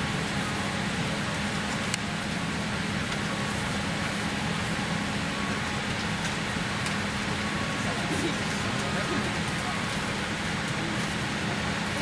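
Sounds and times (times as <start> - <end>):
aircraft cabin air rush: 0.0 - 12.0
constant low hum: 0.0 - 12.0.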